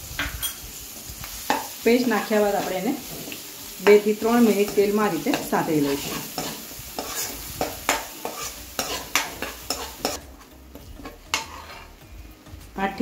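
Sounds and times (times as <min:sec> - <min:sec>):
paste sizzling in hot oil: 0:00.0 - 0:12.9
spoon stirring and scraping pan: 0:00.1 - 0:12.2.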